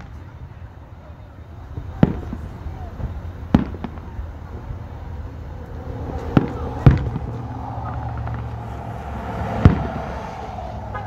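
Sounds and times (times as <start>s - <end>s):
distant firework bangs: 0.0s - 0.7s, 1.6s - 4.9s, 5.7s - 11.0s.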